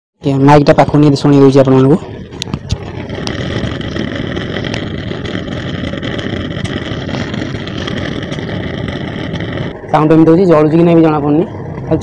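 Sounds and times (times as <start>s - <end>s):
gas burner flame rushing: 0.2s - 12.0s.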